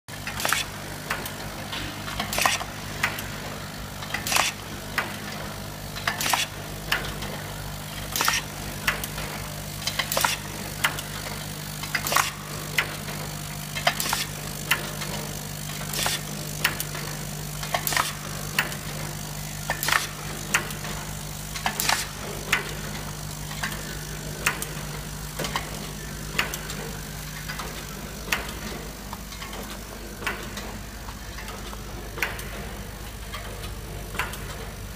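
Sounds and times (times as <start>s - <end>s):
motor hum: 0.1s - 34.9s
light machine clicks: 0.2s - 34.9s.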